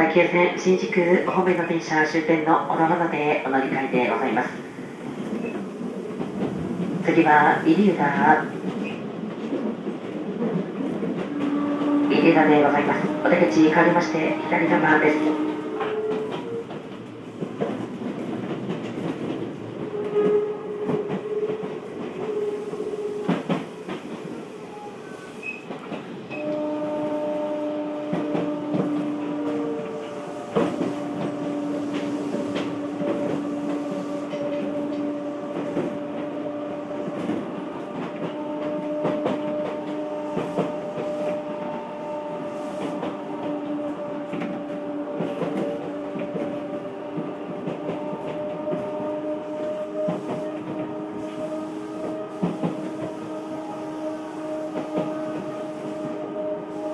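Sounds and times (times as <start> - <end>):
train motor and gear hum: 0.0 - 56.9.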